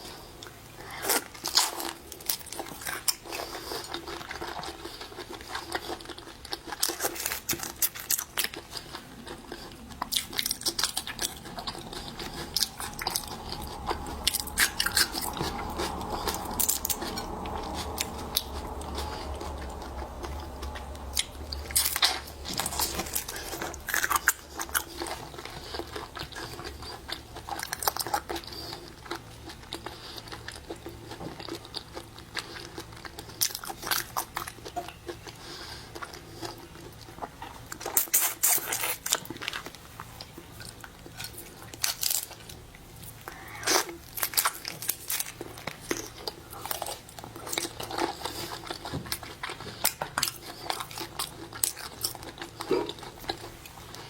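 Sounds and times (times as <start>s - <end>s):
low background noise: 0.0s - 54.0s
crunchy bites and chewing: 0.8s - 54.0s.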